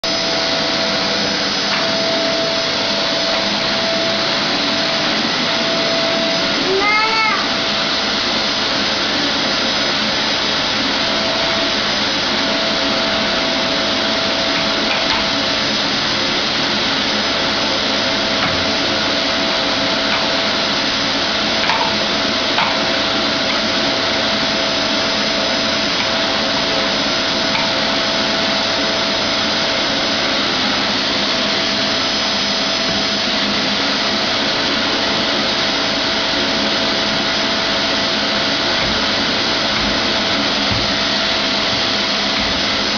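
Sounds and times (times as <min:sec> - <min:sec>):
vacuum cleaner whining: 0:00.0 - 0:42.9.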